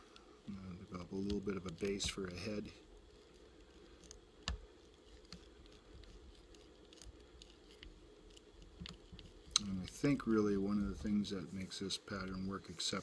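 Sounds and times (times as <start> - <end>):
faint tool ticks and clicks: 0.0 - 11.2
low room hum: 0.0 - 13.0.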